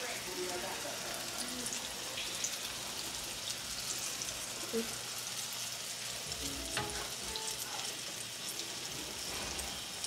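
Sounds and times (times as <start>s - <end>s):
fritters sizzling in a frying pan: 0.0s - 10.0s.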